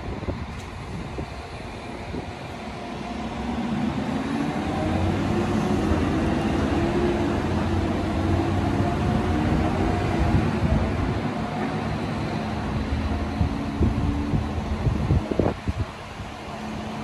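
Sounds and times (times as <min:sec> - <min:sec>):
rising train whine: 0:00.0 - 0:17.0
train rumbling: 0:00.0 - 0:17.0.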